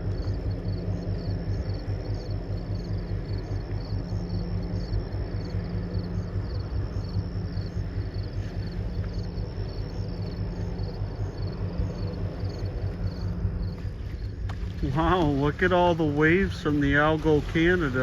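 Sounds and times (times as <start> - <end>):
insects chirping: 0.0 - 18.0
ship engine throbbing: 0.0 - 18.0.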